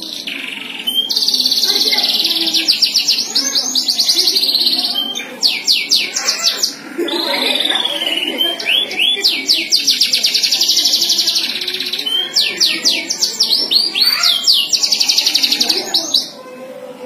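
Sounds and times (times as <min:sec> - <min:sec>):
canary singing: 0:00.0 - 0:16.5.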